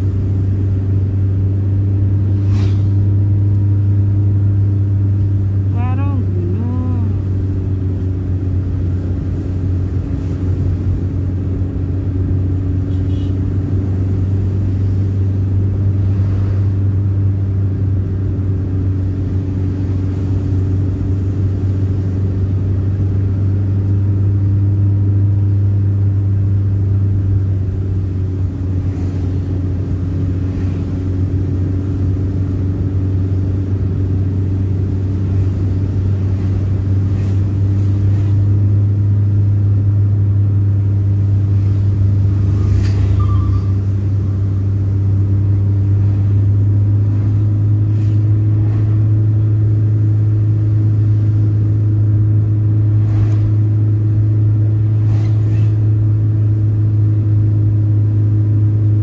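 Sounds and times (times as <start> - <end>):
car engine drone: 0.0 - 59.0
road noise: 0.0 - 59.0.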